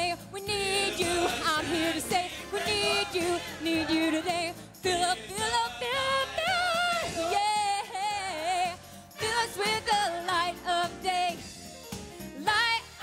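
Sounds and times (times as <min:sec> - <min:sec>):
person singing gospel song: 0:00.0 - 0:11.3.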